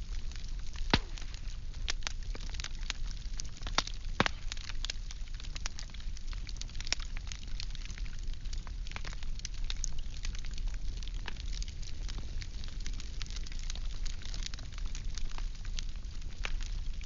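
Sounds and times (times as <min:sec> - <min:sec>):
firewood crackling and snapping: 0:00.0 - 0:17.0.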